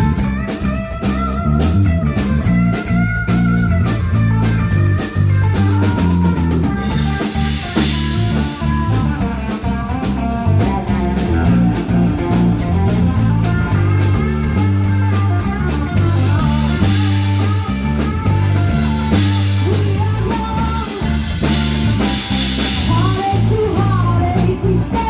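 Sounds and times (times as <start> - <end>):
bass guitar: 0.0 - 25.0
drum kit: 0.0 - 25.0
electric guitar: 0.0 - 25.0.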